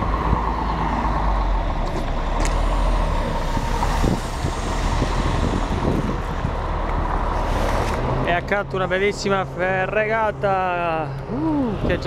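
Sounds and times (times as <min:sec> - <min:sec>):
traffic noise: 0:00.0 - 0:12.0
vehicle engine rumbling: 0:00.0 - 0:12.0.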